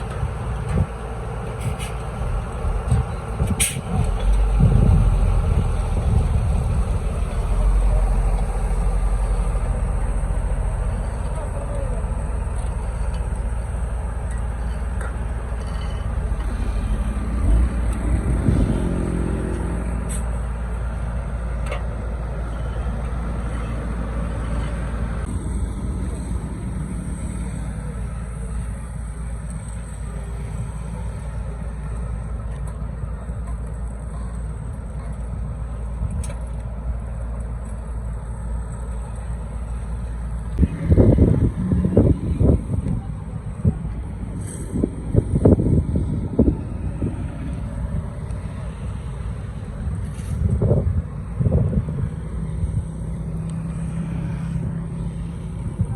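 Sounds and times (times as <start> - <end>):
heavy engines rumbling: 0.0 - 55.9.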